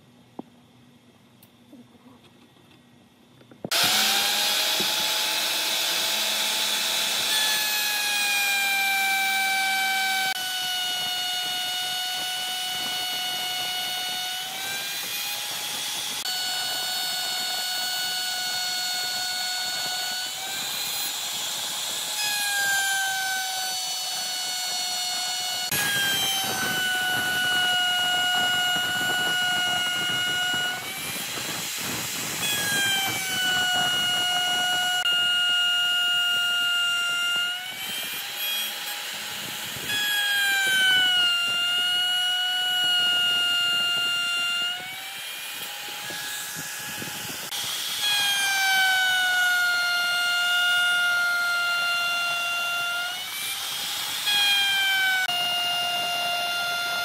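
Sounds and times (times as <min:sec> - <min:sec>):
power tool motor whining: 0:03.6 - 0:57.0.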